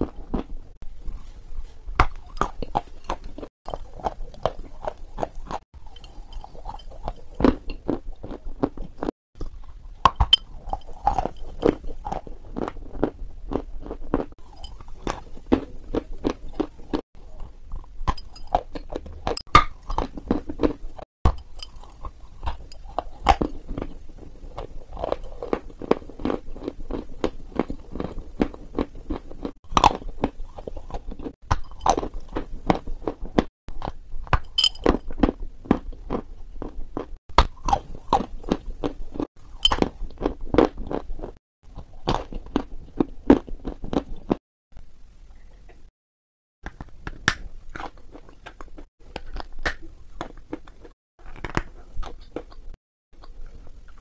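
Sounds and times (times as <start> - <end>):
crunchy food chewing: 0.0 - 44.4, 46.7 - 54.0.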